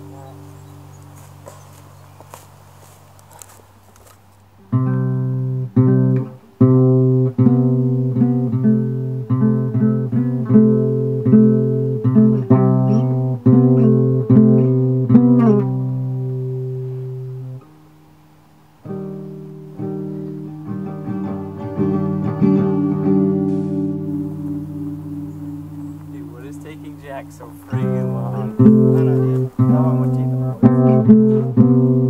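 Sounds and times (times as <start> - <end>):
plucked guitar ringing notes: 0.0 - 1.3, 4.6 - 18.1, 18.8 - 32.0.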